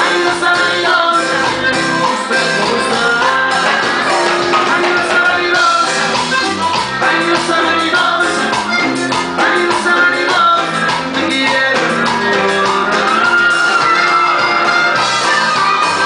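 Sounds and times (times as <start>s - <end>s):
man singing: 0.0s - 15.5s
band playing live: 0.0s - 16.0s.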